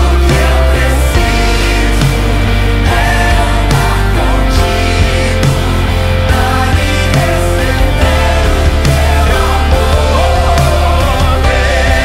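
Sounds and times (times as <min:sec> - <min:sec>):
drums with cymbals: 0:00.0 - 0:12.0
electric bass: 0:00.0 - 0:12.0
electric guitars: 0:00.0 - 0:12.0
person singing: 0:00.0 - 0:12.0.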